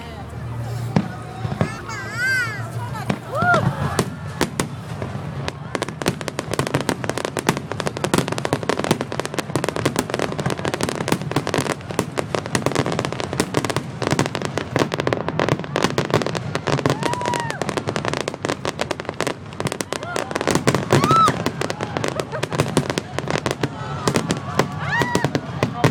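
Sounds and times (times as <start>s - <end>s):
fireworks crackling: 0.0s - 25.9s.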